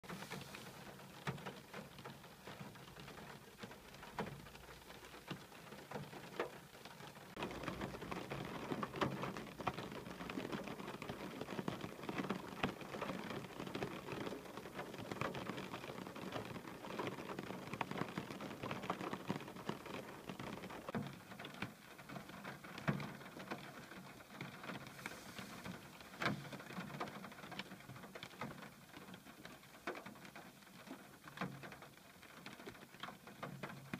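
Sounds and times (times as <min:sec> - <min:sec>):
rain pattering on glass: 0:00.0 - 0:33.9.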